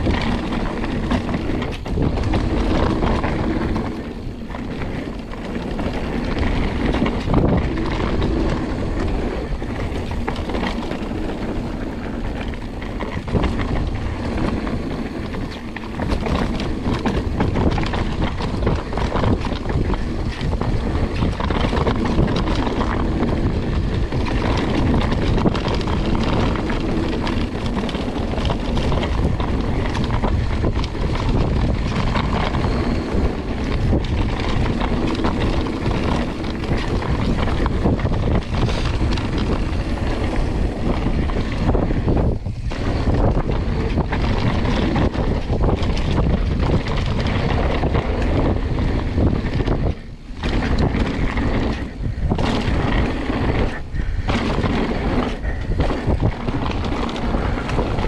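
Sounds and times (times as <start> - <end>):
bike rolling on dirt trail: 0.0 - 58.0
wind buffeting microphone: 0.0 - 58.0.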